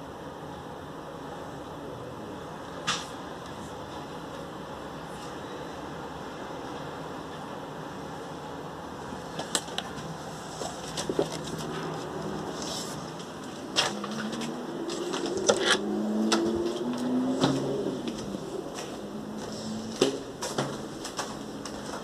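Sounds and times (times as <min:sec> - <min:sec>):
city hum: 0:00.0 - 0:22.0.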